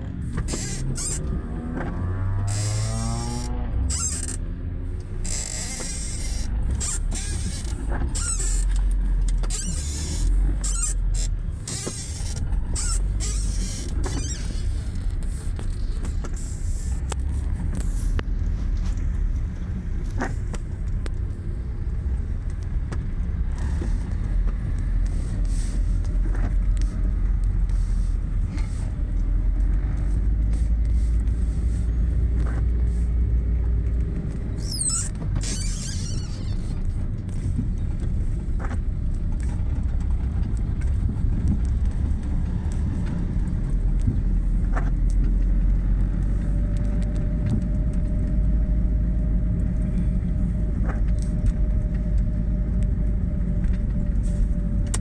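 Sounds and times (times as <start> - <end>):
engine running at low speed: 0.0 - 55.0.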